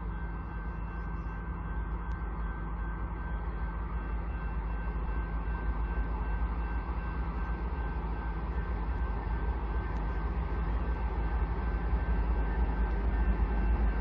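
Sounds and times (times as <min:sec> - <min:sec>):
faint high whine: 0:00.0 - 0:14.0
locomotives low rumble: 0:00.0 - 0:14.0.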